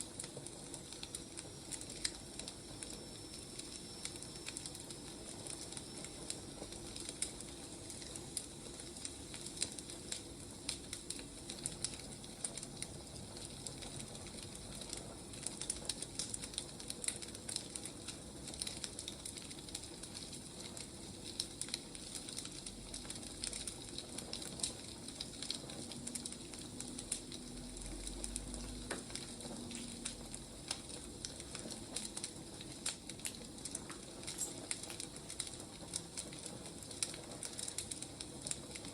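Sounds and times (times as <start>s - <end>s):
firewood burning with crackles: 0.0s - 38.9s.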